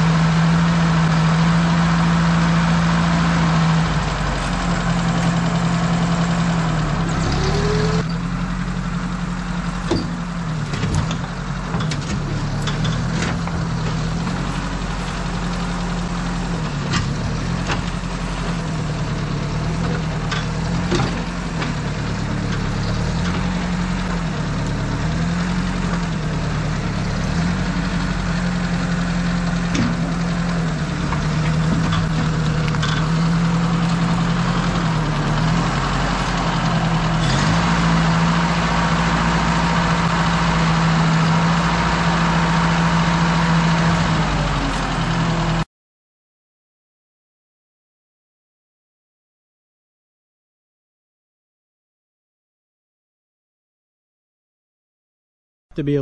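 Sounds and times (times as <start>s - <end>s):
tractor engine under load: 0.0s - 45.6s.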